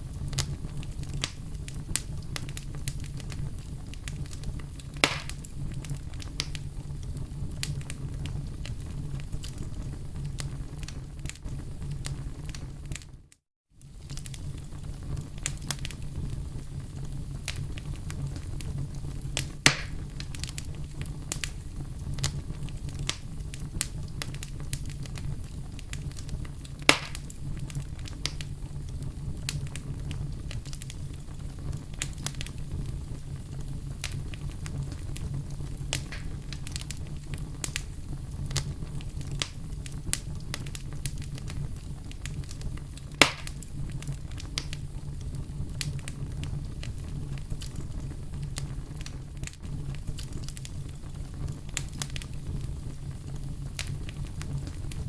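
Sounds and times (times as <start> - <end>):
fire crackling: 0.0 - 55.0
fire low rumble: 0.0 - 55.0
fire popping: 0.0 - 55.0.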